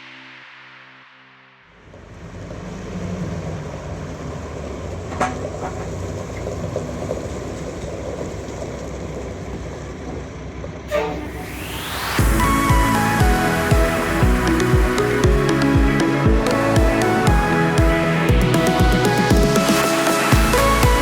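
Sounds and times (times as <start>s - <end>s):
heavy machinery rumbling: 1.8s - 21.0s.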